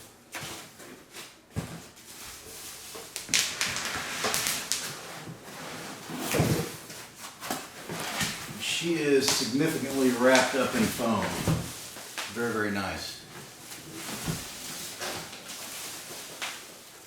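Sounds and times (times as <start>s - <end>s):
foam and cardboard rustling: 0.3s - 17.0s.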